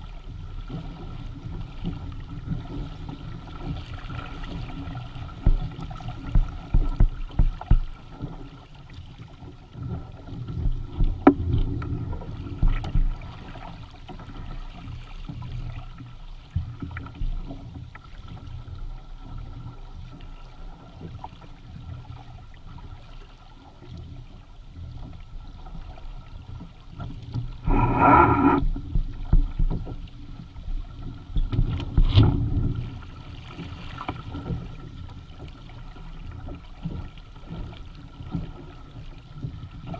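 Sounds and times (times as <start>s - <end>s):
rushing water and wind: 0.0s - 39.9s
water slapping against hulls: 0.0s - 39.9s.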